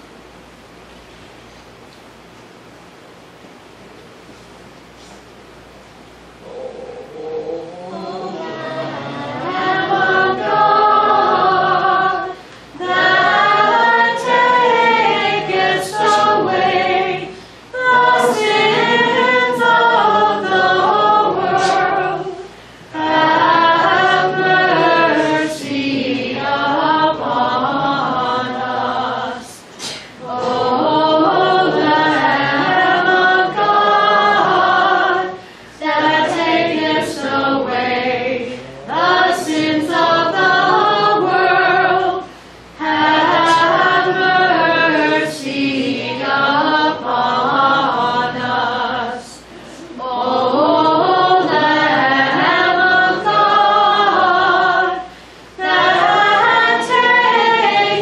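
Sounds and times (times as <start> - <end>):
group singing a hymn unaccompanied: 6.4 - 58.0.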